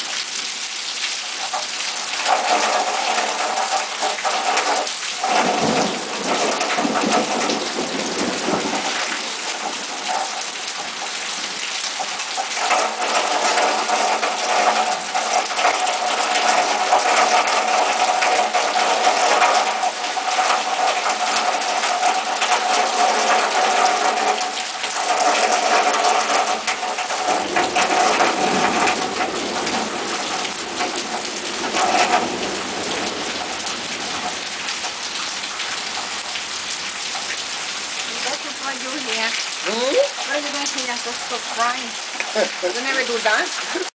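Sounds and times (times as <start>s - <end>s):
heavy rain on trees and roof: 0.0s - 43.9s.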